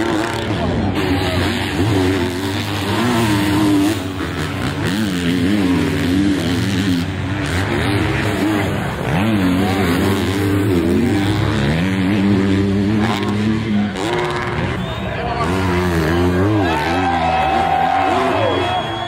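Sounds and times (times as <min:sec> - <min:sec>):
off-road motorcycle engines revving: 0:00.0 - 0:19.0.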